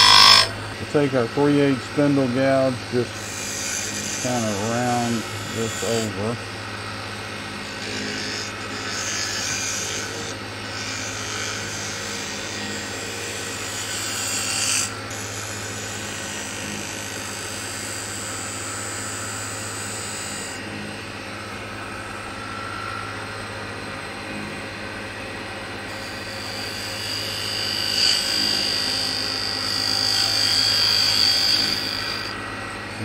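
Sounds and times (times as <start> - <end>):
gouge cutting spinning wood: 0.0 - 33.0
wood lathe humming: 0.0 - 33.0.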